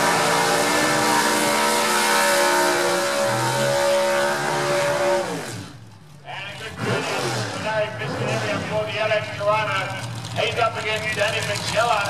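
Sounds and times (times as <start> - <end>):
drag car engine at high revs: 0.0 - 12.0.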